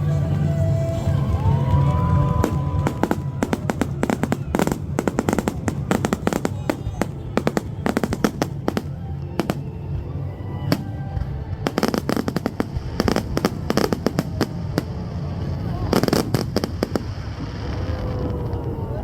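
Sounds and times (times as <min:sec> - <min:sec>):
music: 0:00.0 - 0:17.9
crowd voices: 0:00.0 - 0:19.0
fireworks bangs and crackles: 0:00.0 - 0:19.0.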